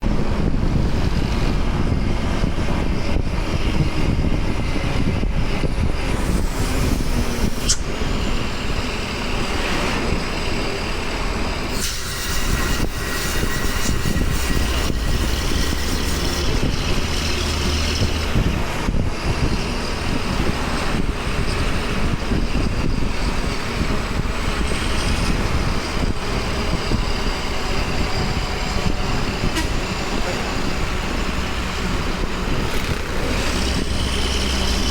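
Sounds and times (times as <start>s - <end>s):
bus diesel engine running: 0.0s - 11.7s, 13.9s - 34.9s
road noise: 0.0s - 34.9s.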